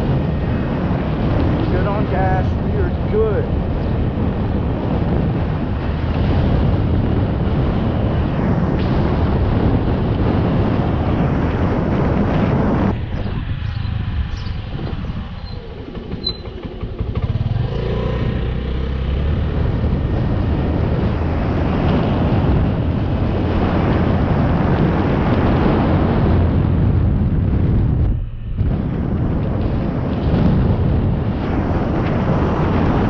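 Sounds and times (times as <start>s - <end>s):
motorcycle engine rumble: 0.0s - 33.0s
wind noise on microphone: 0.0s - 33.0s.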